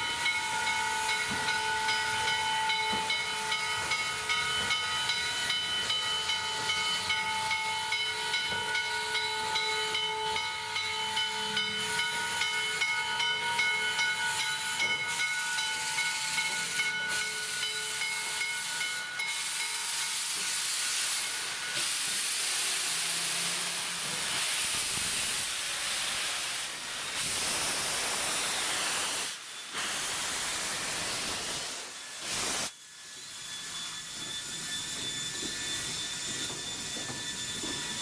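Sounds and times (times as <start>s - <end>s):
steam locomotive hissing steam: 0.0s - 38.0s.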